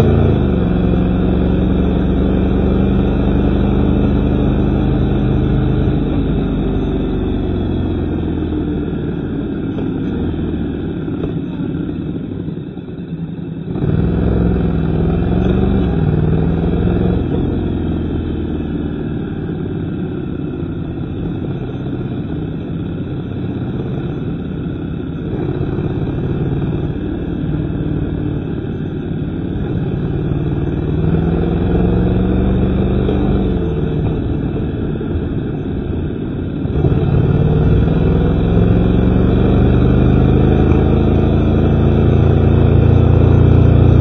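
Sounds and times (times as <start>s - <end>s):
road and wind noise: 0.0s - 44.0s
vehicle engine accelerating: 0.0s - 44.0s.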